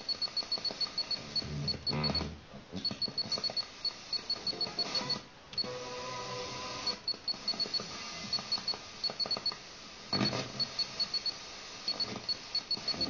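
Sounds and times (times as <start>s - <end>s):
radio crackles: 0.0s - 13.0s
radio tuner hiss: 0.0s - 13.0s.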